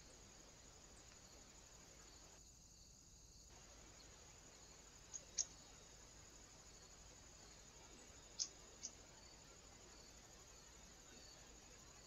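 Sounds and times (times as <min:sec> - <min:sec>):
faint electronic hiss: 0:00.0 - 0:12.0.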